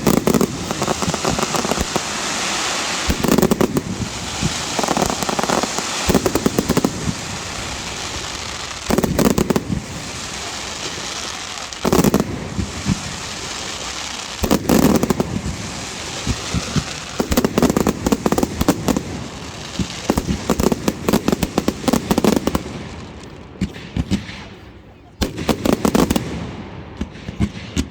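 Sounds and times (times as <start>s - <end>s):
fireworks cracks and bangs: 0.0s - 24.6s, 25.2s - 27.9s
fireworks crackling hiss: 0.0s - 27.8s.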